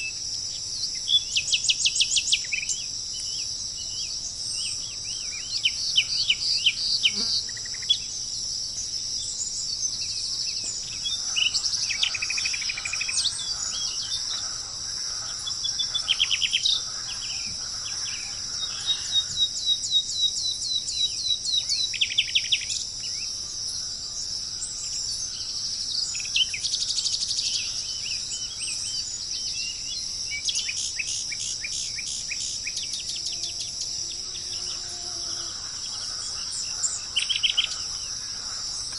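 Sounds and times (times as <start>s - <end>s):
birds singing trills: 0.0s - 38.9s
high-pitched insect chorus: 0.0s - 38.9s.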